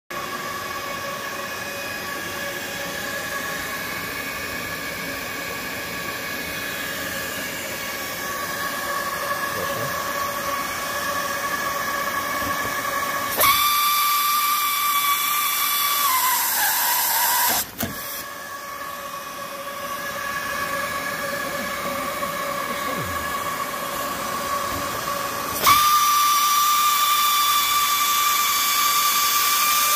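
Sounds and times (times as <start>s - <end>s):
high motor whine: 0.1s - 29.9s
hot-air blower hissing: 0.1s - 29.9s.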